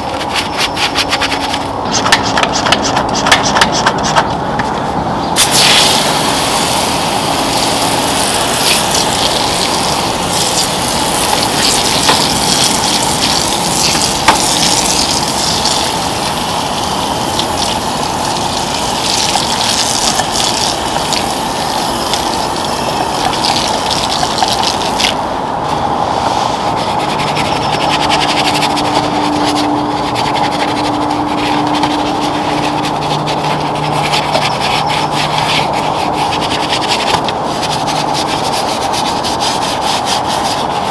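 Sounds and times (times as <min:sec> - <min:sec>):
brush scrubbing through foam: 0:00.0 - 0:04.2, 0:07.0 - 0:25.2, 0:26.2 - 0:40.9
foam sprayer hissing: 0:05.4 - 0:40.9.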